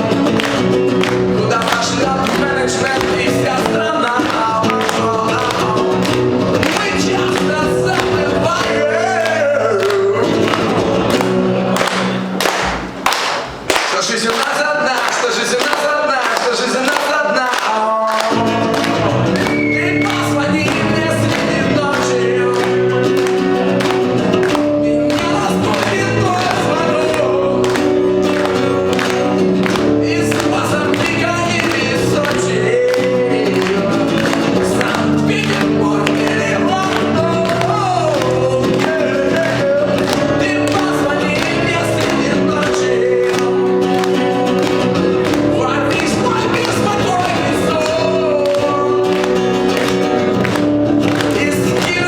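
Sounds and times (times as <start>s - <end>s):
person singing: 0.0s - 12.1s, 13.8s - 52.0s
strummed acoustic guitar: 0.0s - 52.0s.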